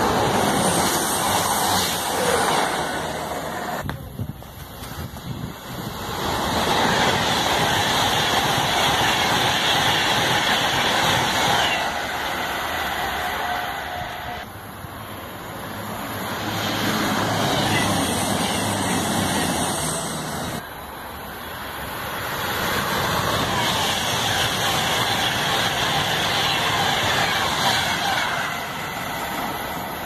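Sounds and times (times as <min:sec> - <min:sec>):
trains rushing past at speed: 0:00.0 - 0:30.0.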